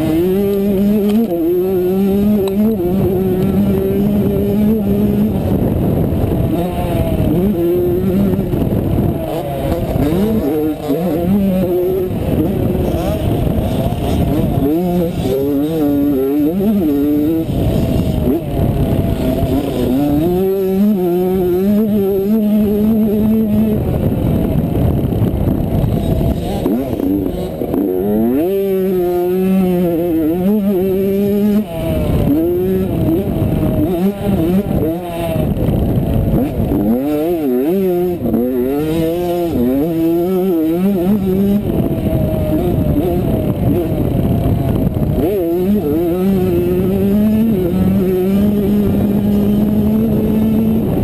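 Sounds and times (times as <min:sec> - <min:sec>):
motorbike engine revving: 0:00.0 - 0:51.0
wind rush over microphone: 0:00.0 - 0:51.0.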